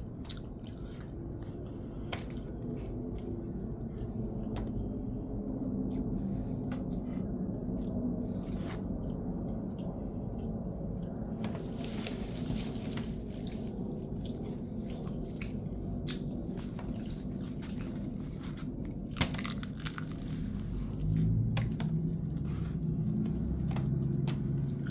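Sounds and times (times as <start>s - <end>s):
chewing crunchy food: 0.0s - 24.9s.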